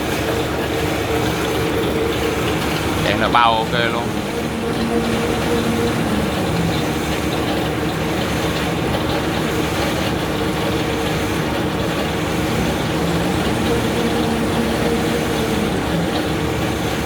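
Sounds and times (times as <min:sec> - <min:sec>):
machine humming: 0:02.8 - 0:17.0
machine running: 0:03.0 - 0:17.0.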